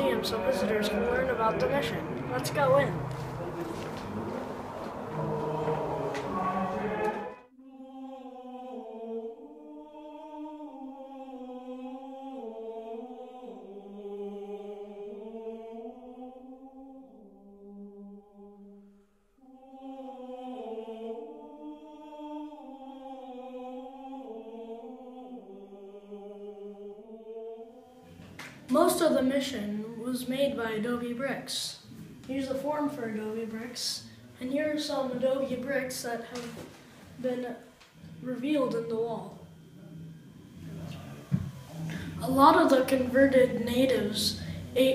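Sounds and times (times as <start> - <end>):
choir chanting in unison: 0.0 - 18.8, 19.4 - 44.9.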